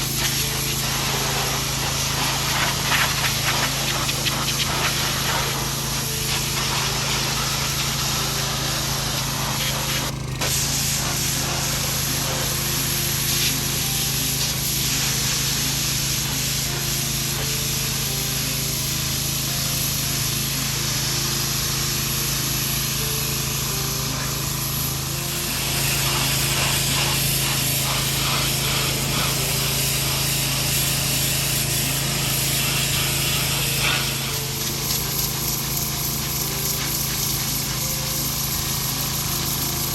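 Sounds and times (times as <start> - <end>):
pressure washer spraying: 0.0 - 39.9.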